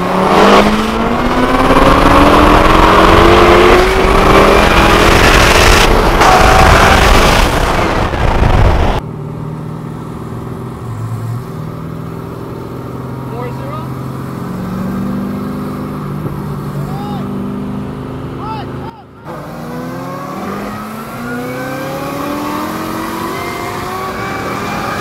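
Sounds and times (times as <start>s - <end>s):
car engines at full throttle: 0.0s - 25.0s.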